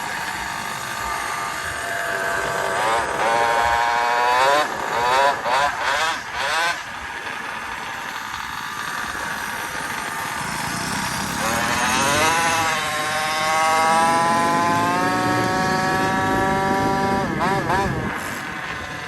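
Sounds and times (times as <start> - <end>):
small motorbike engine revving: 0.0 - 19.0.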